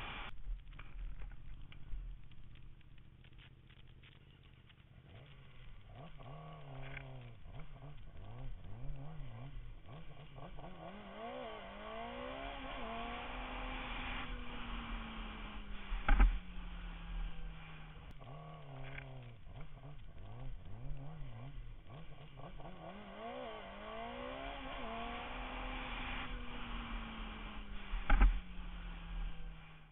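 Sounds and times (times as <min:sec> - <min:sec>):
motorcycle engine revving: 0:05.0 - 0:29.9.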